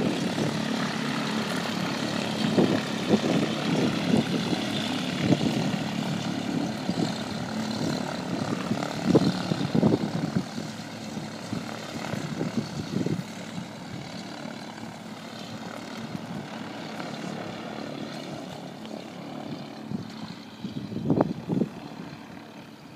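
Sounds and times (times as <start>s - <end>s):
propeller aircraft engine droning: 0.0s - 22.9s.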